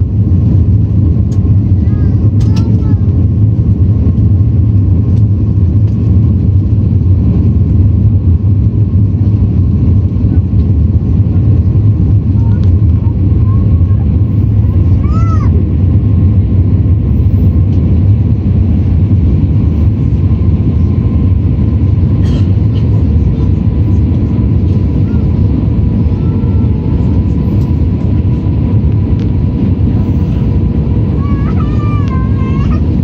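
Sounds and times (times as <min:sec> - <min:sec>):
jet engine and airflow rumble: 0:00.0 - 0:33.0
muffled cabin voices: 0:00.0 - 0:33.0.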